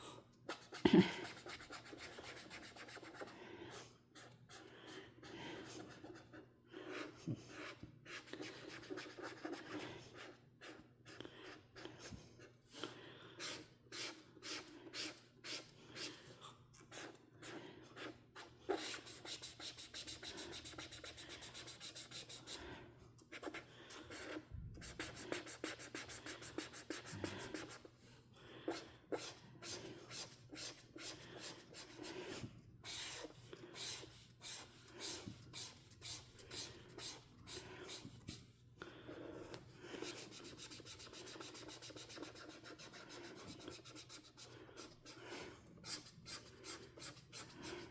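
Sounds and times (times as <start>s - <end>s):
coloring strokes scratching on paper: 0.5s - 3.3s, 4.2s - 11.9s, 16.9s - 22.6s, 23.3s - 27.9s, 28.7s - 38.4s, 40.0s - 47.9s.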